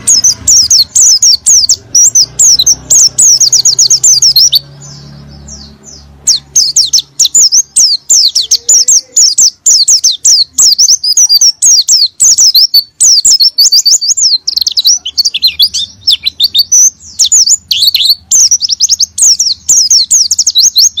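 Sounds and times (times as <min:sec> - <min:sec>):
bird high sweeping chirps: 0:00.0 - 0:21.0.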